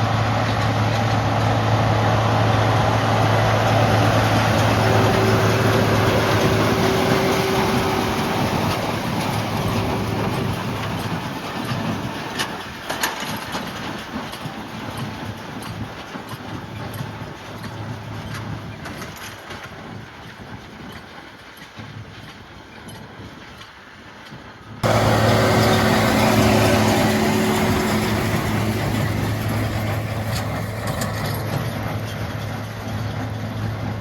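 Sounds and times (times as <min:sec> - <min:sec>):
tractor engine running: 0:00.0 - 0:20.4, 0:24.8 - 0:34.0.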